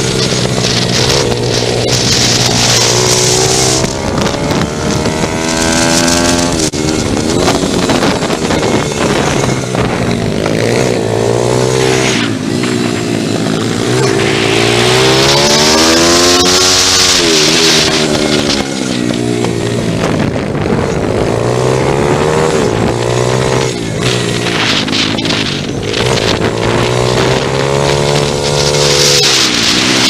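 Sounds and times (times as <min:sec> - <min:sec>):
pit bike engine revving: 0:00.0 - 0:30.0.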